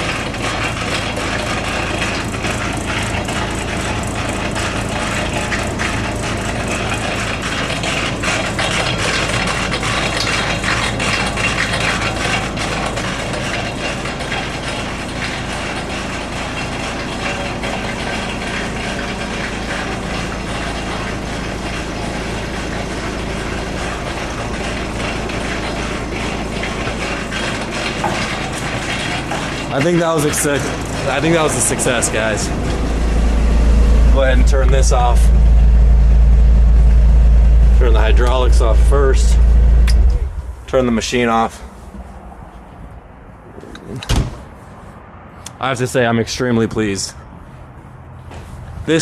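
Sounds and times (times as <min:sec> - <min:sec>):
snowblower augers rattling: 0:00.0 - 0:41.6
loader engine running: 0:00.0 - 0:45.6.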